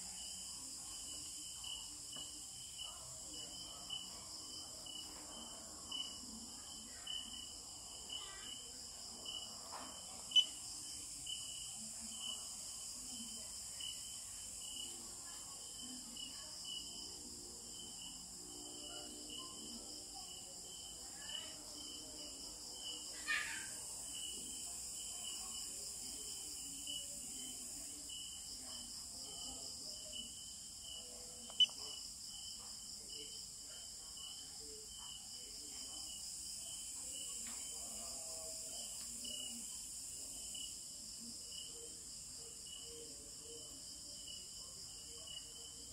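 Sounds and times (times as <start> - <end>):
crickets chirping: 0.1 - 45.9.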